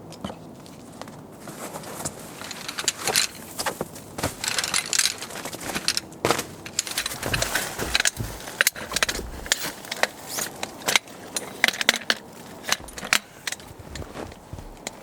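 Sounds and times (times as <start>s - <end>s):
camping gear clicking and crunching: 0.4s - 15.0s.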